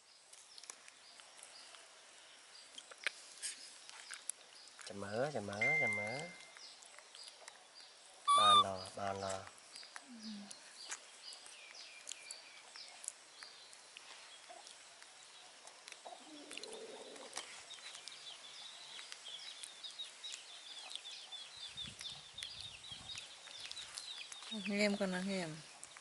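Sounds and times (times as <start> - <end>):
birds chirping faintly: 0.0 - 26.0.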